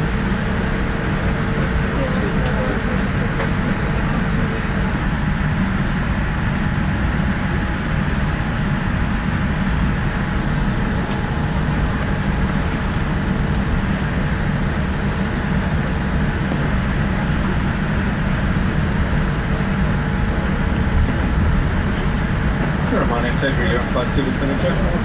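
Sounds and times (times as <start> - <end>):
aircraft cabin rumble and hiss: 0.0 - 25.0.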